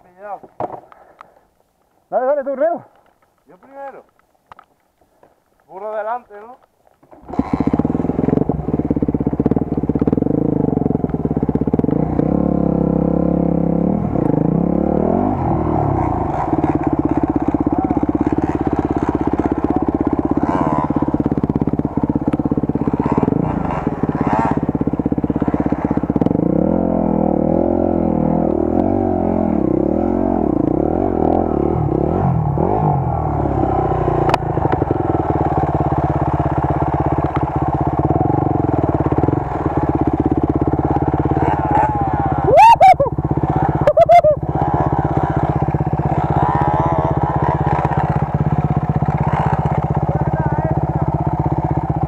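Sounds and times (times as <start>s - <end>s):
motorcycle engine revving: 7.1s - 52.0s.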